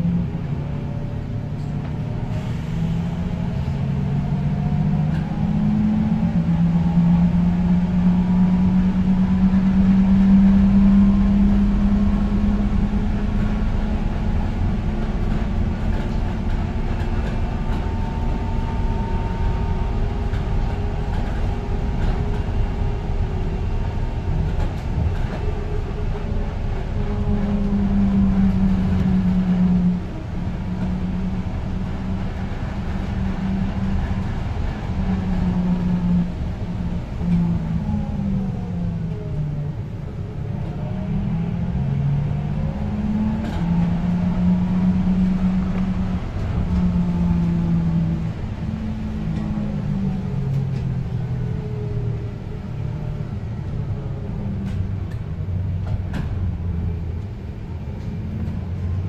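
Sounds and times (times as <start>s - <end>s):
bus drivetrain drone: 0.0s - 59.0s
road rumble: 0.0s - 59.0s.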